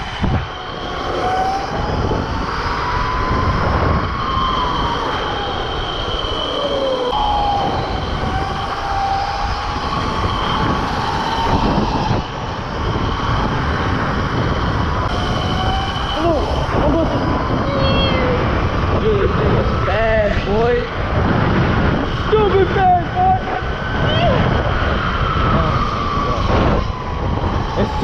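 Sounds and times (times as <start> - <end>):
wind and road rushing noise: 0.0 - 28.0.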